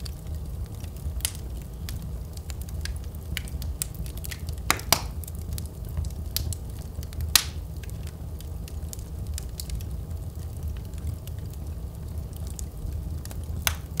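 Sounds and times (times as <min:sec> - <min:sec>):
loud fire pops: 0:00.0 - 0:14.0
wood fire crackling: 0:00.0 - 0:14.0.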